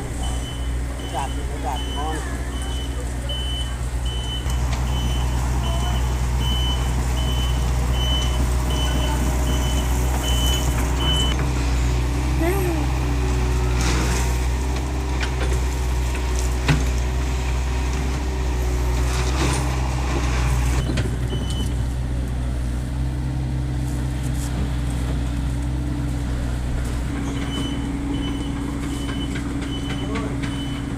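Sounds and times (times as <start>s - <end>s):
excavator engine running: 0.0s - 30.9s.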